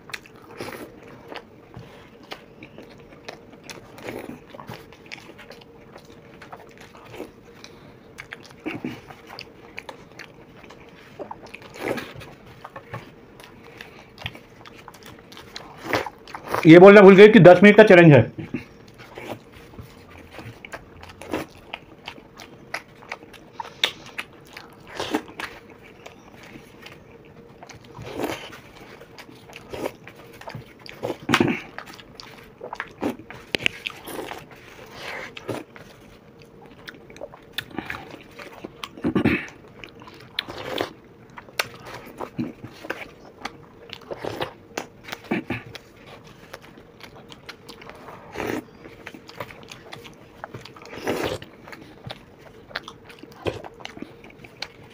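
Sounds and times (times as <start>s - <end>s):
wet chewing and mouth smacks: 0.0s - 16.7s, 18.3s - 54.9s.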